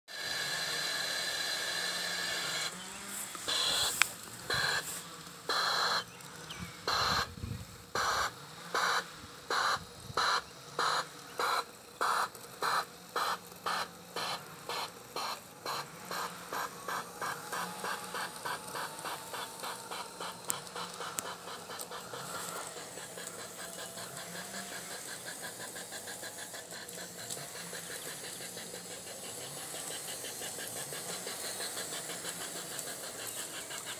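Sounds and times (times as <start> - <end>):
model steam locomotive chuffing: 0.1 - 33.9.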